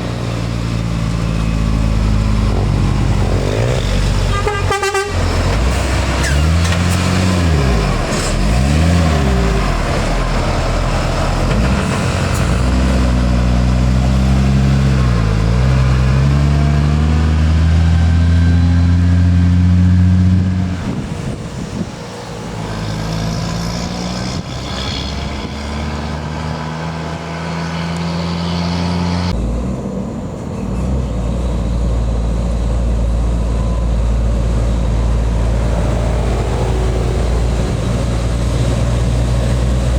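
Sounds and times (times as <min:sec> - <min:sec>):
diesel truck engine labouring uphill: 0:00.0 - 0:39.9.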